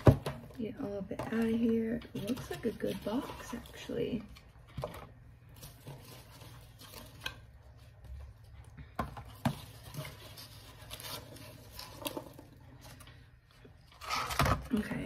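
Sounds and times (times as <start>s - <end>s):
packaging rustling: 1.3s - 8.6s, 9.2s - 14.7s.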